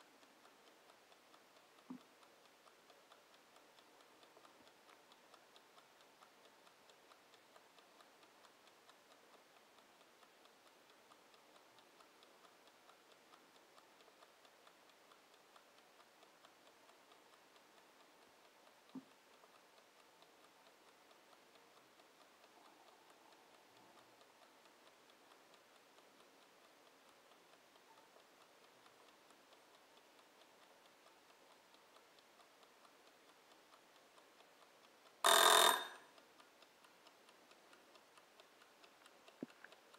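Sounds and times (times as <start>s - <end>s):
kitchen timer ticking: 0.0s - 39.9s
timer click: 0.0s - 39.9s.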